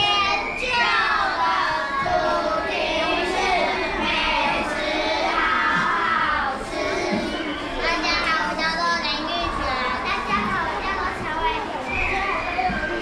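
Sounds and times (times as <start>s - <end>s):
children singing together: 0.0s - 11.5s.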